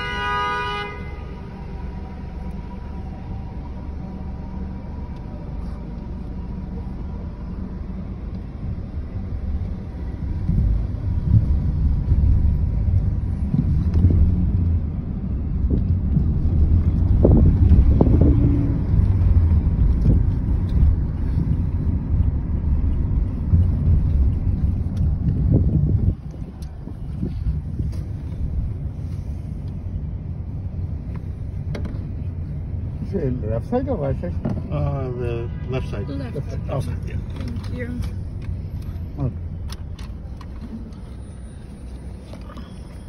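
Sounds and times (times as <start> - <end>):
car rumble from inside: 0.0 - 43.0
passing traffic: 0.0 - 43.0.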